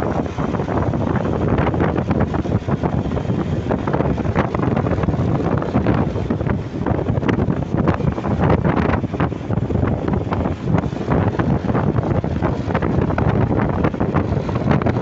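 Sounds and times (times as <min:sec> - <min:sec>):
road and vehicle rumble: 0:00.0 - 0:15.0
wind buffeting microphone: 0:00.0 - 0:15.0.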